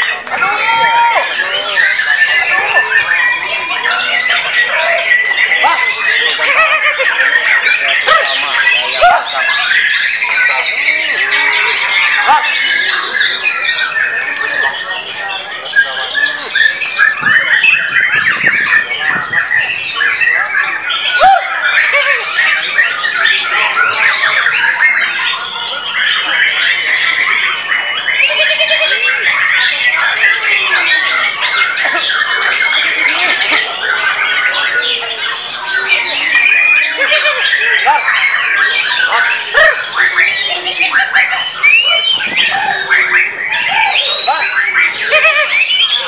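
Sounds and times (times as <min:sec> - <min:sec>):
bird singing whistles and trills: 0:00.0 - 0:46.0
people's voices: 0:00.0 - 0:46.0.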